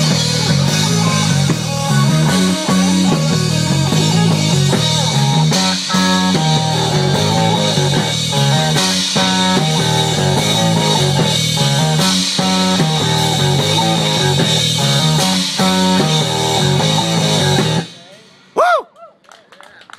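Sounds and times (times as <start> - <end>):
amplified guitars: 0.0 - 18.6
drum kit: 0.0 - 18.9.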